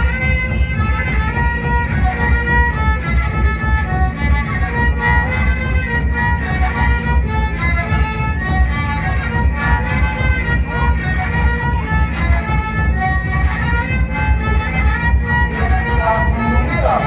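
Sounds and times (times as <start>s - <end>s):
pulsing dance beat: 0.0s - 17.0s
violin melody: 0.0s - 17.0s.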